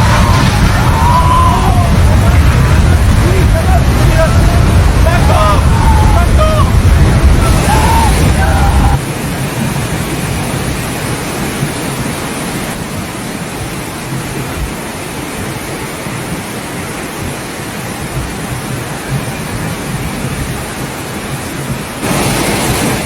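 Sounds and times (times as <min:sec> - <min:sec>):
rushing water: 0:00.0 - 0:23.0.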